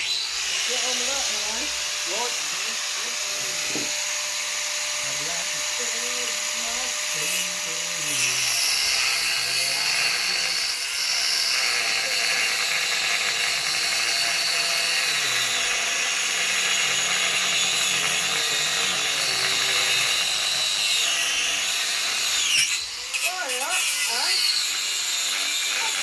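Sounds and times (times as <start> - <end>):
angle grinder grinding steel: 0.0 - 26.0.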